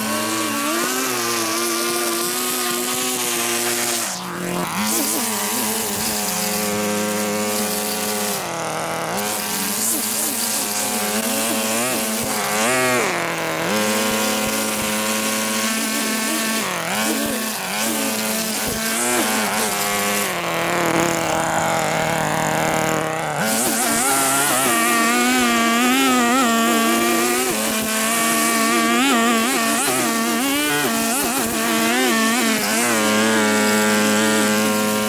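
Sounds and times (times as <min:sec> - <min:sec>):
lawn mower engine running: 0:00.0 - 0:35.0.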